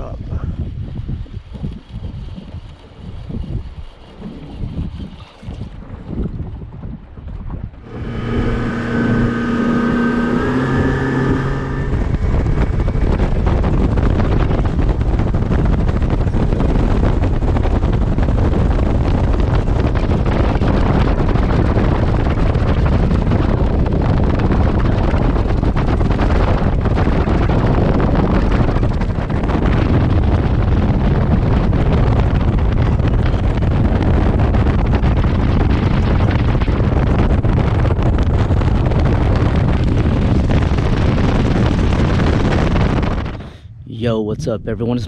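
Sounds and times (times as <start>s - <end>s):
wind roaring over microphone: 0.0s - 45.0s
boat motor: 7.0s - 44.0s.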